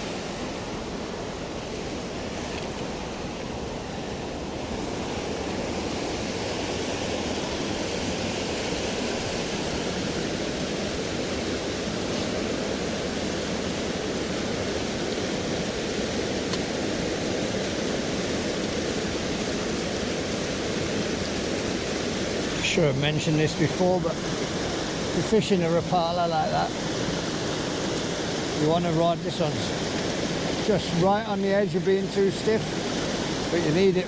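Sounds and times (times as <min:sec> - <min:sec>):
river rushing in flood: 0:00.0 - 0:34.0.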